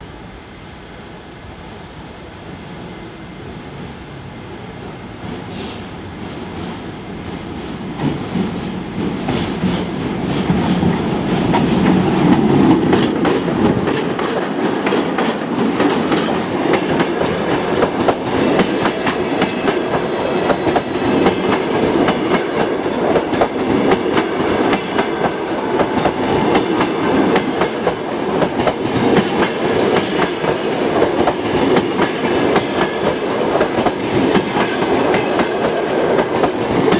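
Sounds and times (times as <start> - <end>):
electric locomotive passing: 0.0 - 36.9.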